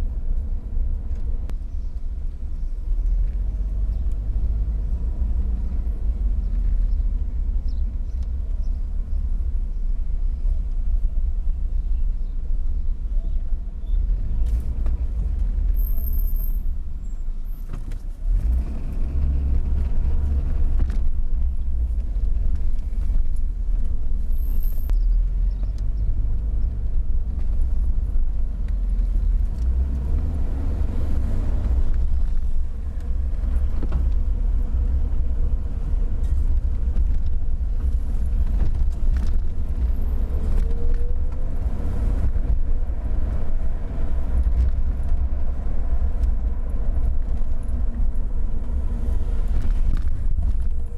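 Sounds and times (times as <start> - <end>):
car interior road and engine noise: 0.0 - 50.9.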